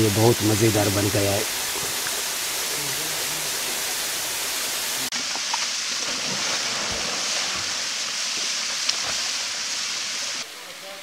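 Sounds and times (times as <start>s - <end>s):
faint water splashes: 0.0s - 11.0s
waterfall pouring into a pool: 0.0s - 11.0s.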